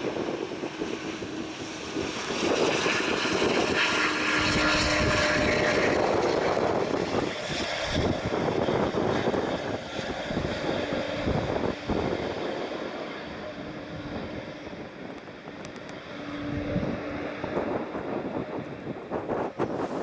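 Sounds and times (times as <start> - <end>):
jet engine noise: 0.0 - 20.0.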